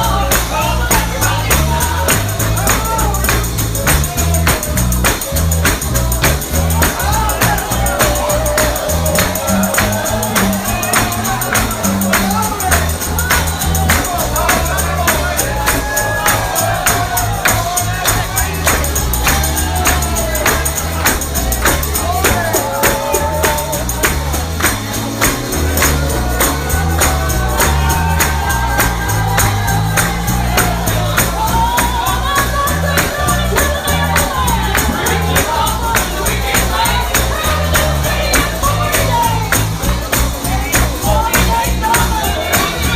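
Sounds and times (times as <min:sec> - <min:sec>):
bass line: 0:00.0 - 0:42.9
gospel singing: 0:00.0 - 0:42.9
tambourine beat: 0:00.0 - 0:42.9.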